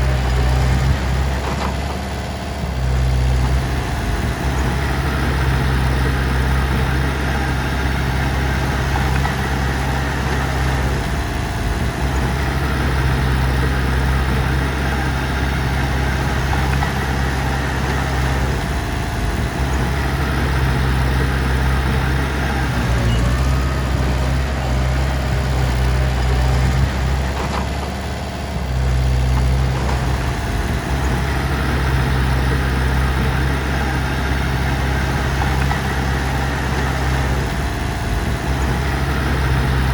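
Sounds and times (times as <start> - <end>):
diesel engine low rumble: 0.0 - 39.9.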